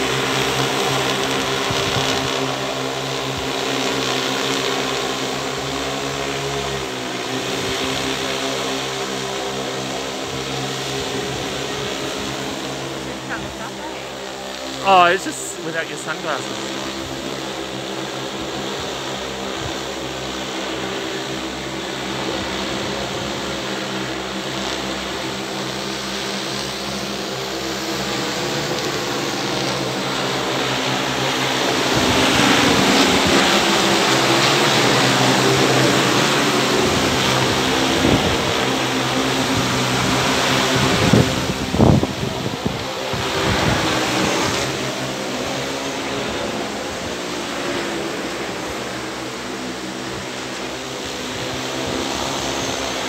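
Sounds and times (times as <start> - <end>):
drone propeller hum: 0.0 - 53.0.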